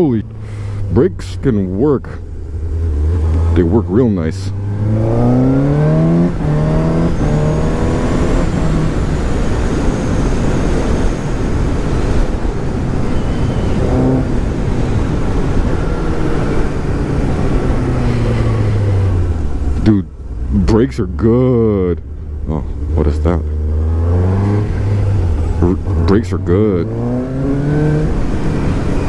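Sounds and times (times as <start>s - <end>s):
motorcycle engine accelerating: 0.0s - 20.0s, 22.2s - 29.0s.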